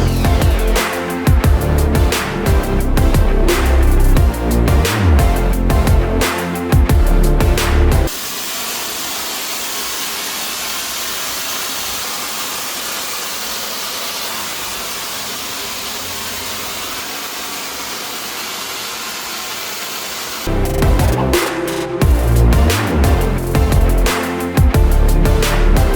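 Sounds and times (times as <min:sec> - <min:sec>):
air tool hissing: 0:00.0 - 0:04.6, 0:08.1 - 0:25.7.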